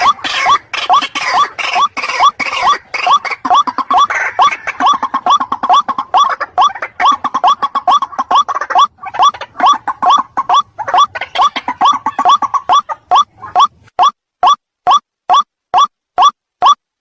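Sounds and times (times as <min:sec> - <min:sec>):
waterhen calling: 0:00.0 - 0:14.1.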